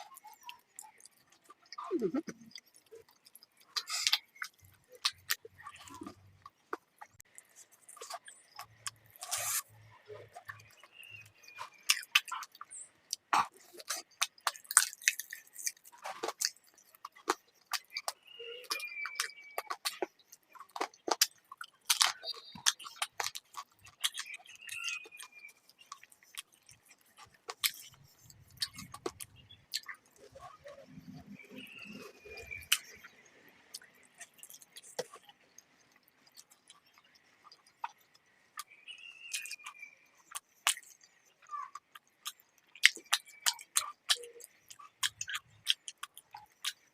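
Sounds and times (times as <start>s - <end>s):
wet chewing and mouth smacks: 0.0s - 46.9s.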